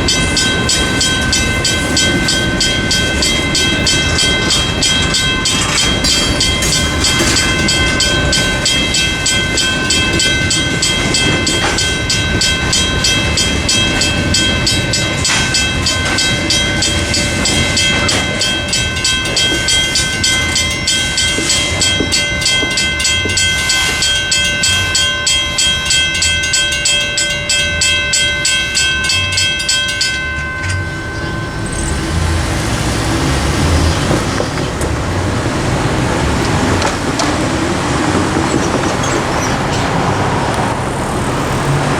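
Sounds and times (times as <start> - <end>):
crossing bell ringing: 0.0 - 41.9
freight train rumbling and clacking: 0.0 - 41.9.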